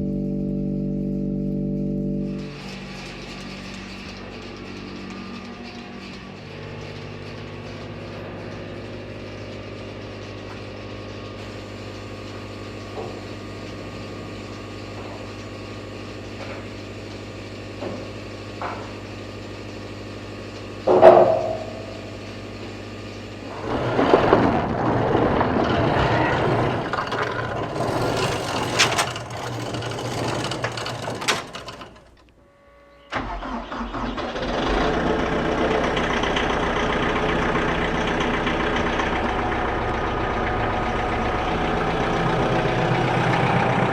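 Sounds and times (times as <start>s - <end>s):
engine idling: 2.2s - 32.4s, 33.1s - 43.9s.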